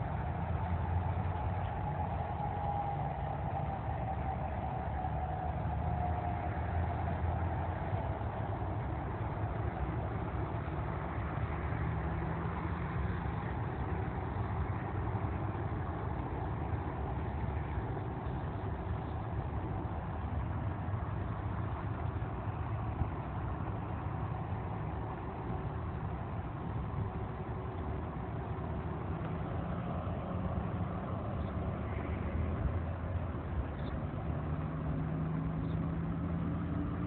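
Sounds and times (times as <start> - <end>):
distant jet engines rumbling: 0.0 - 37.0.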